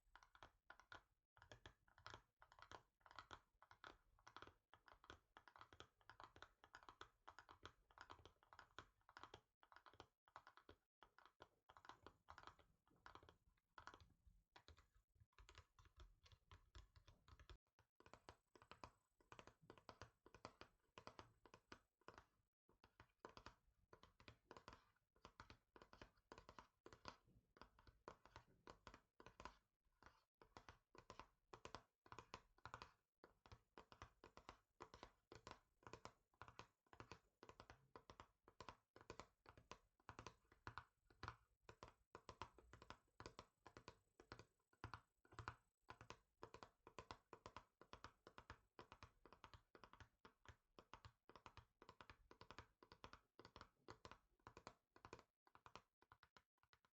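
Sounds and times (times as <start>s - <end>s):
fingers tapping on hard surface: 0.1s - 56.8s.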